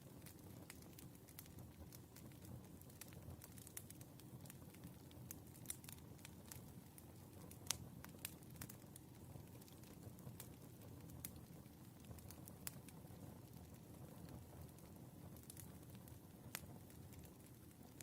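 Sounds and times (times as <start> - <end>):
firewood crackling and popping: 0.0 - 18.0.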